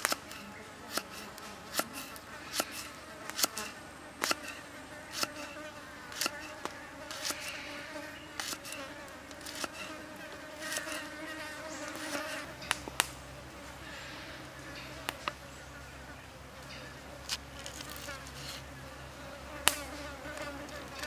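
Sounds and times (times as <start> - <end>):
flying insects buzzing: 0.0 - 21.0.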